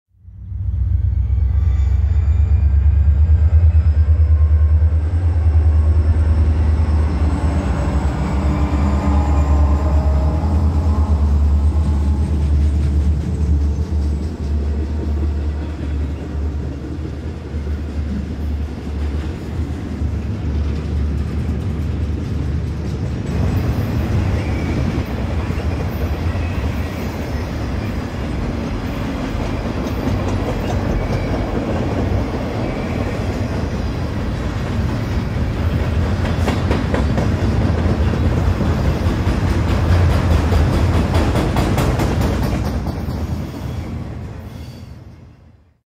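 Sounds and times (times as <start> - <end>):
electric train rumbling: 0.2 - 45.7.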